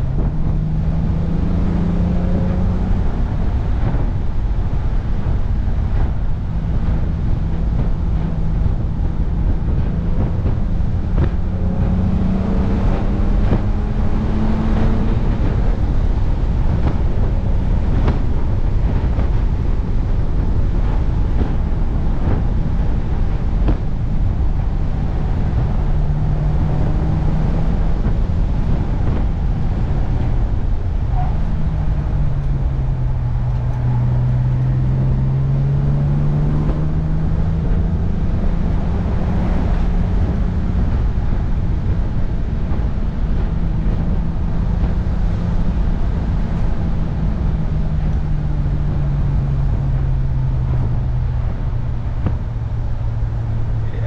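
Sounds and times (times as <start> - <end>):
car engine running under load: 0.0 - 54.0
wind and road noise: 0.0 - 54.0.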